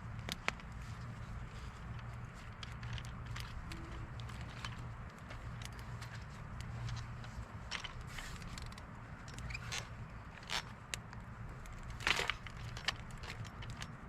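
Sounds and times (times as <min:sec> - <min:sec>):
objects clicking and rustling: 0:00.1 - 0:14.0.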